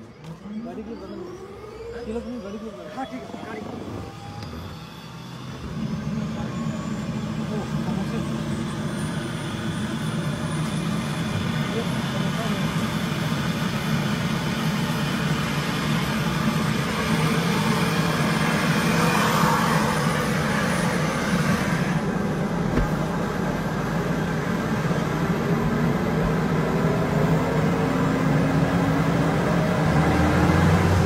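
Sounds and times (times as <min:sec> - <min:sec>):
helicopter engine drone: 0:00.0 - 0:31.0
helicopter whine rising: 0:00.0 - 0:31.0.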